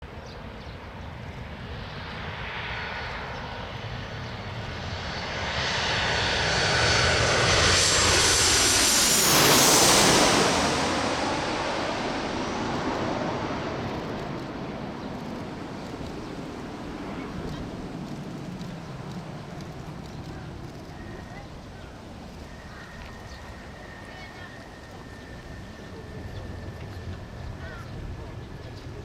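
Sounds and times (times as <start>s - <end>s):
jet airliner passing overhead: 0.0s - 29.0s.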